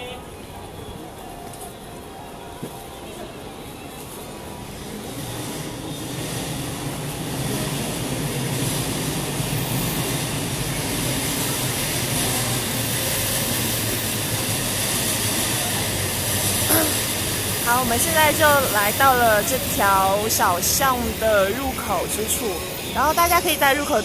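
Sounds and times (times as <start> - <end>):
city traffic roar: 0.0 - 24.0.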